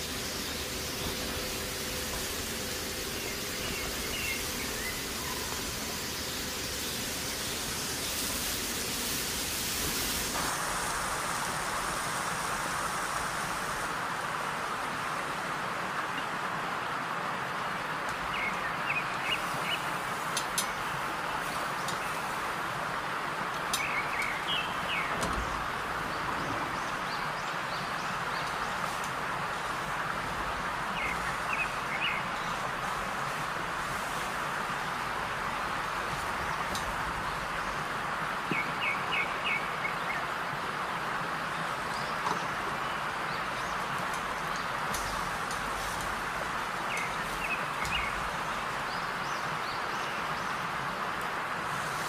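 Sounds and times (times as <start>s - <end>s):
steady hissing noise: 0.0s - 52.0s.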